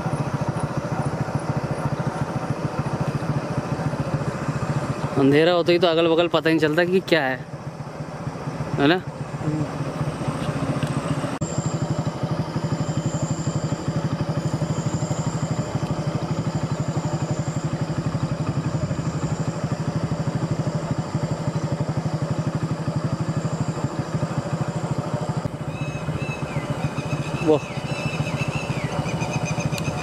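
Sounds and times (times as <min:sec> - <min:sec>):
motorcycle engine cruising: 0:00.0 - 0:30.0.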